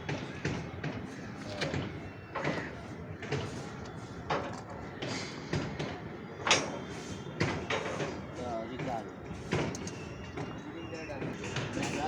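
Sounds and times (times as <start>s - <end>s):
construction knocks and clanks: 0.0s - 12.0s
faint distant voices: 0.0s - 12.0s.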